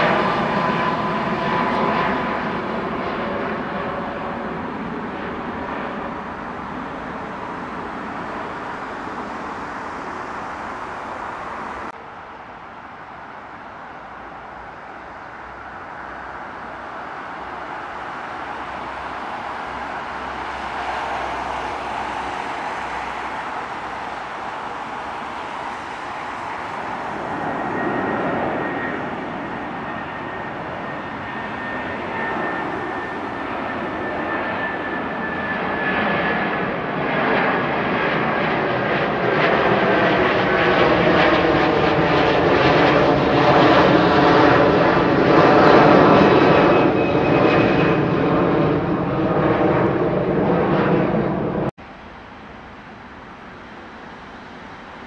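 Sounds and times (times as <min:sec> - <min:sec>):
high engine whine: 0:00.0 - 0:55.0
jet airliner taking off: 0:00.0 - 0:55.0.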